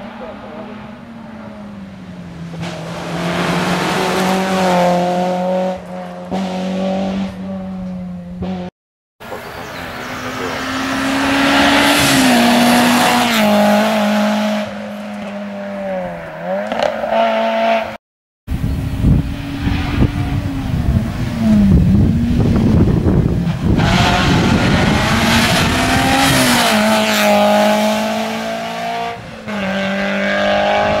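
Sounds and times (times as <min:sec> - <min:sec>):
rally car engine revving past: 0:02.4 - 0:08.7, 0:10.0 - 0:18.0, 0:19.2 - 0:31.0.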